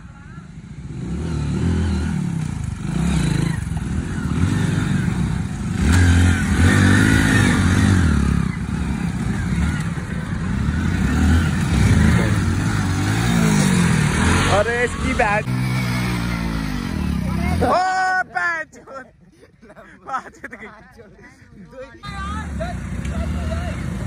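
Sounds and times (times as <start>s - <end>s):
motorcycles riding past: 0.0s - 18.3s, 21.6s - 24.0s.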